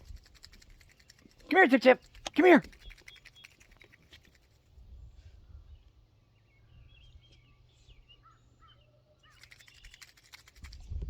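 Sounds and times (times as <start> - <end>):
faint bird chirps: 2.0 - 10.9.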